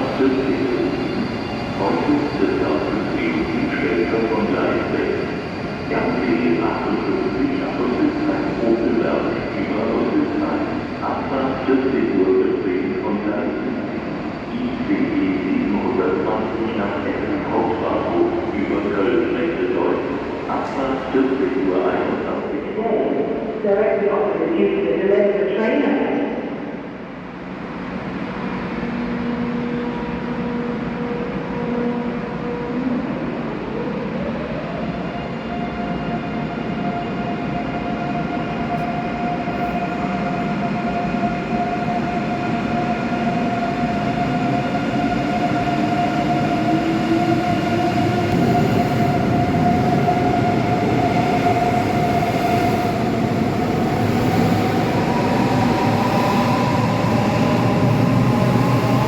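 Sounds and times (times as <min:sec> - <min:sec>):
rumble of running train: 0:00.0 - 0:59.0.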